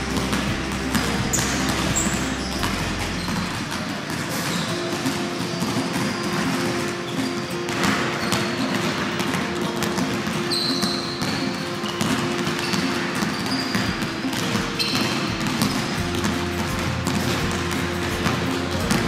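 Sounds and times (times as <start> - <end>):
background music: 0.0 - 19.0
basketballs bouncing on hall floor: 0.0 - 19.0.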